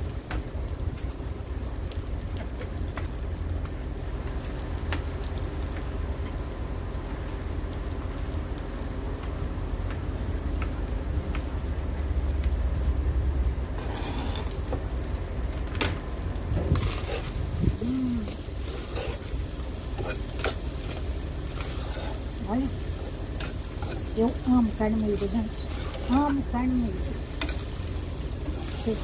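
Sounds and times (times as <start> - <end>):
meat sizzling in a pot: 0.0 - 29.0
steady low rumble: 0.0 - 29.0.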